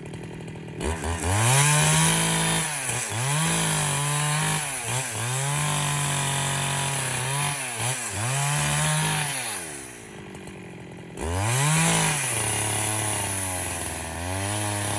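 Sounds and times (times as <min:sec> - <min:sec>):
chainsaw running at high revs: 0:00.0 - 0:14.9.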